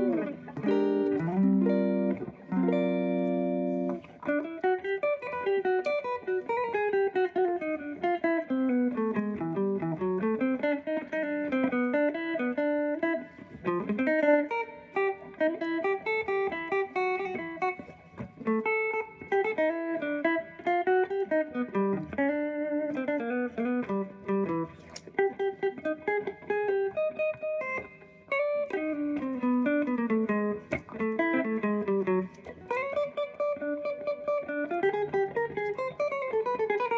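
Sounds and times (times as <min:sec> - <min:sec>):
solo guitar picking: 0:00.0 - 0:36.9.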